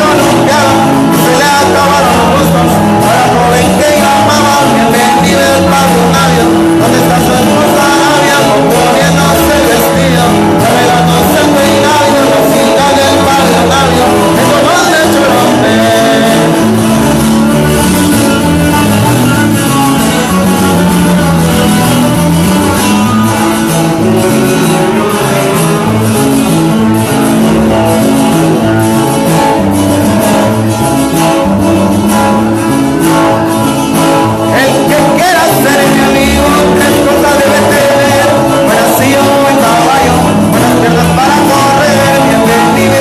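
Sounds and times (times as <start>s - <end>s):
person singing: 0.0s - 43.0s
plucked guitar: 0.0s - 43.0s
walking bass line: 0.0s - 43.0s.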